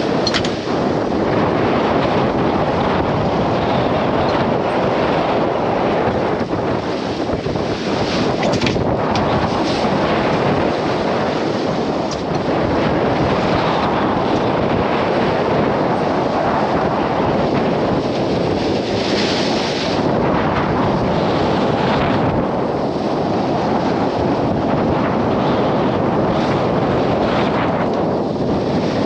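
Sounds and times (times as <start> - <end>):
seawater rushing along hull: 0.0 - 29.0
wind buffeting microphone: 0.0 - 29.0.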